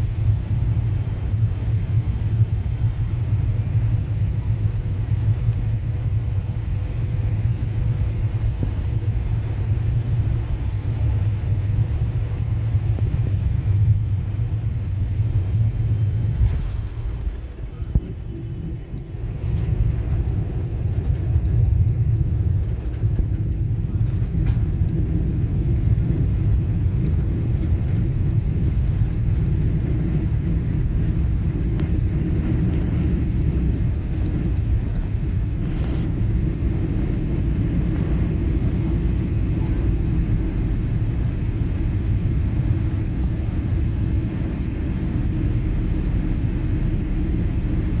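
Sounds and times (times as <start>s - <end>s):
airliner low rumble: 0.0s - 48.0s.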